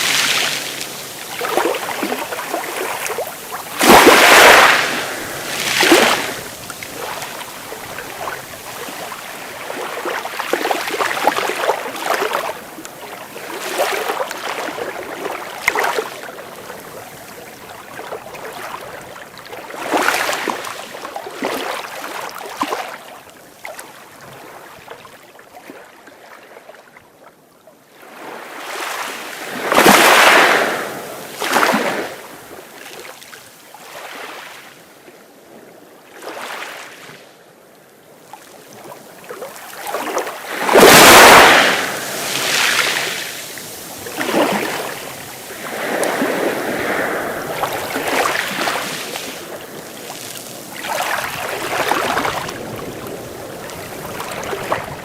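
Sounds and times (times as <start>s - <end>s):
sea waves breaking: 0.0s - 22.9s, 28.1s - 34.6s, 38.7s - 55.0s.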